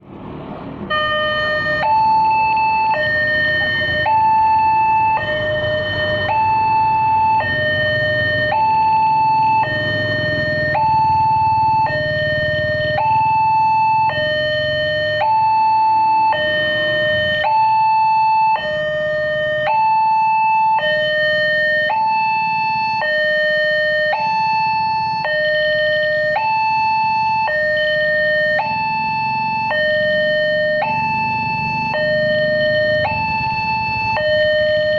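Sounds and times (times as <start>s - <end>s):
low rumble of vehicle engines: 0.0s - 34.9s
level crossing two-tone alarm: 0.9s - 34.9s.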